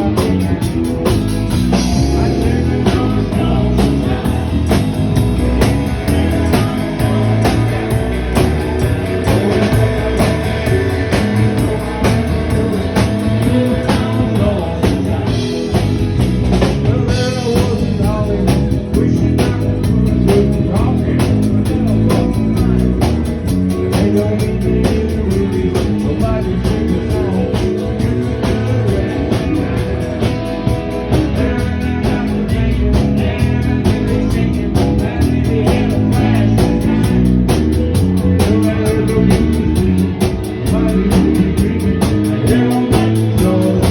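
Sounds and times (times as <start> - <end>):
person singing: 0.0 - 43.9
rock band playing: 0.0 - 43.9.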